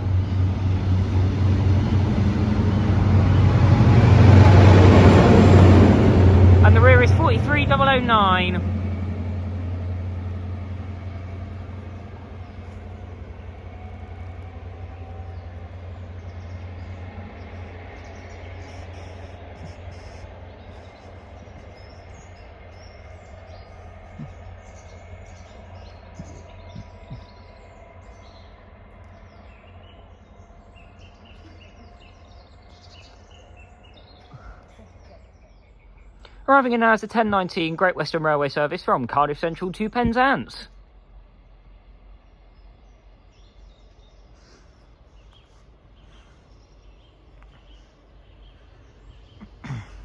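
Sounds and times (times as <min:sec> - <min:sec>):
diesel train engine hum: 0:00.0 - 0:50.0
birds chirping: 0:06.6 - 0:08.8, 0:09.7 - 0:50.0.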